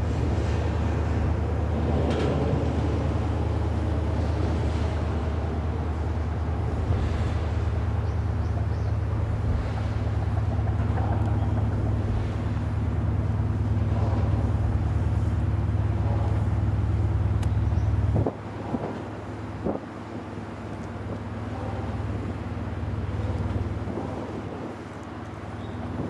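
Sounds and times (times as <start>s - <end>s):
ship engines rumbling: 0.0s - 26.0s
water wash: 0.0s - 26.0s.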